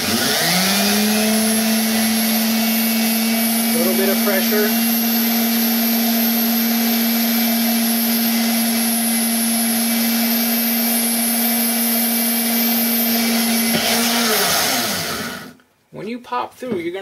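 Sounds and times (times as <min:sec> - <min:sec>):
grinder humming with high whine: 0:00.0 - 0:15.6.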